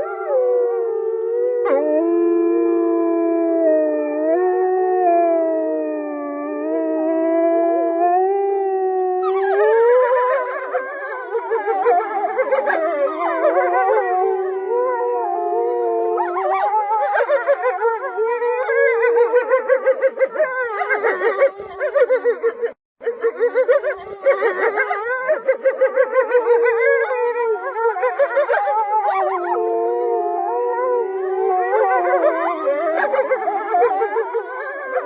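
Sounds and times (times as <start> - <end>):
wolves howling: 0.0 - 35.0.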